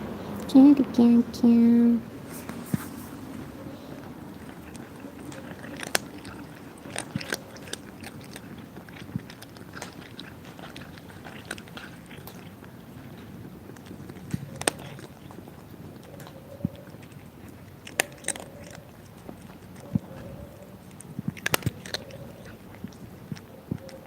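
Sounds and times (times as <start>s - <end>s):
cats chewing food: 0.0s - 24.0s.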